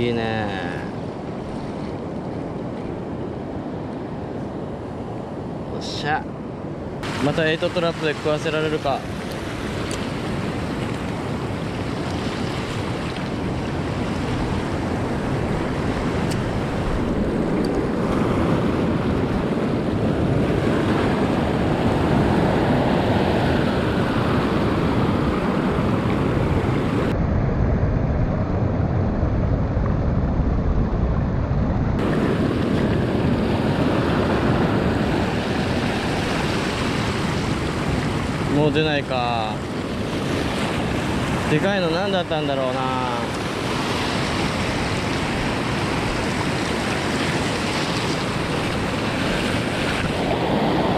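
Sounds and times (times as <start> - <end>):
sea surf: 0.0 - 27.2, 31.9 - 50.9
wind blowing on microphone: 0.0 - 50.9.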